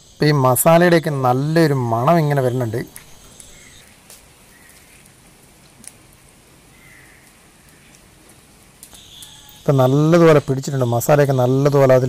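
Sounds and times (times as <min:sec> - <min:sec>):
rain hissing: 0:00.0 - 0:12.0
wood fire crackling: 0:00.0 - 0:12.0.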